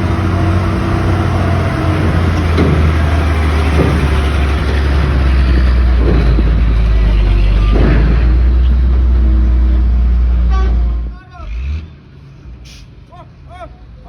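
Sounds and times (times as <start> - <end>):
diesel truck engine running: 0.0 - 11.7.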